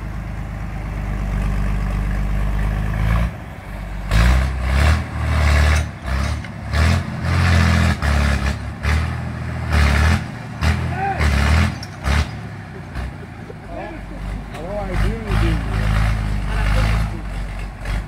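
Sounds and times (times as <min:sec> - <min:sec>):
tractor engine revving under load: 0:00.0 - 0:18.0.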